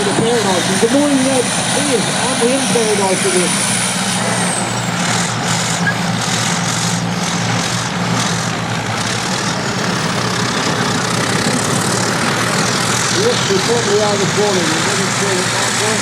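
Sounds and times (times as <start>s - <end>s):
bulldozer diesel engines running: 0.0s - 16.0s.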